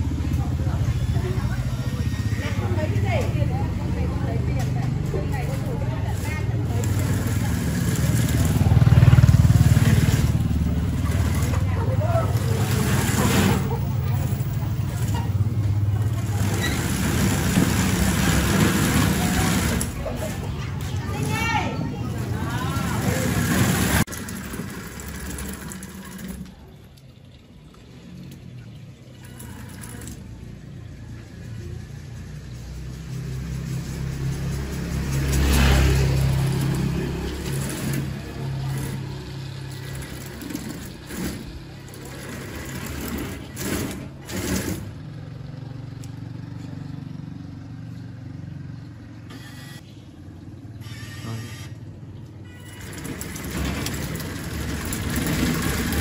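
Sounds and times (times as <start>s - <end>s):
tracks rolling on wet concrete: 0.0s - 48.2s, 52.2s - 56.0s.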